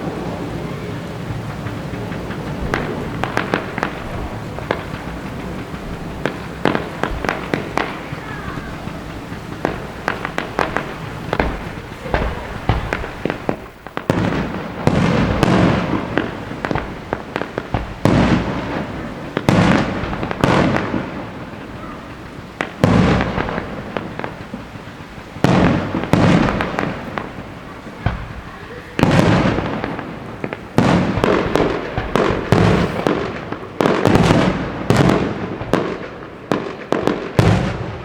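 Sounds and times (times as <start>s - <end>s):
firework shells booming: 0.0s - 38.0s
fireworks cracking and crackling: 0.0s - 38.0s.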